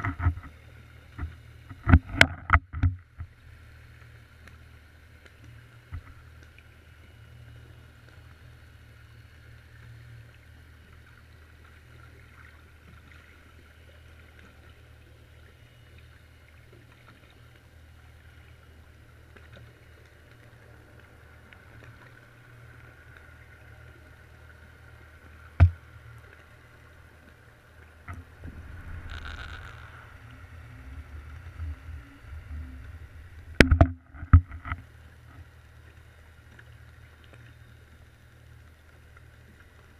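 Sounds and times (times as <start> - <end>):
underwater low hum: 0.0 - 39.9.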